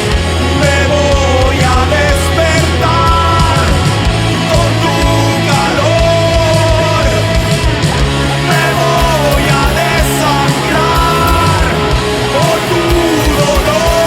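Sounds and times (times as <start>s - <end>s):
bending lead guitar melody: 0.0s - 14.0s
heavy rock instrumental: 0.0s - 14.0s.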